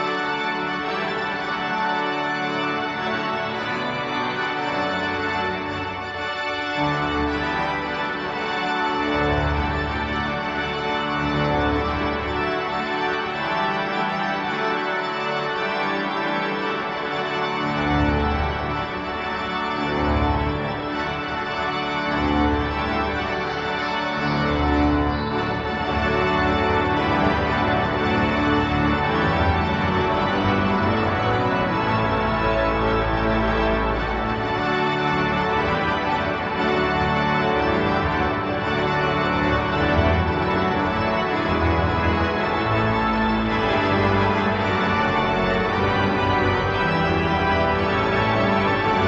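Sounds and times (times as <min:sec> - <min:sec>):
deep organ pedal notes: 0:00.0 - 0:49.0
pipe organ loud sustained chords: 0:00.0 - 0:49.0.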